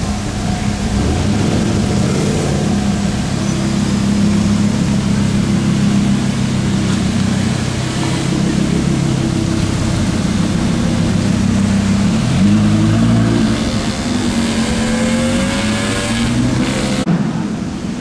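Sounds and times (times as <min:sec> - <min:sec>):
car engine revving: 0:00.0 - 0:17.8.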